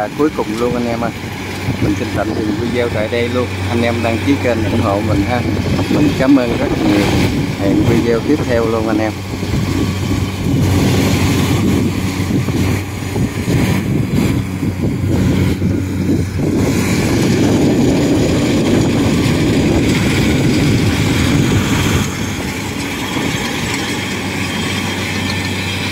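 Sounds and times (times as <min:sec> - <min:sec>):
combine harvester diesel engine: 0:00.0 - 0:25.9.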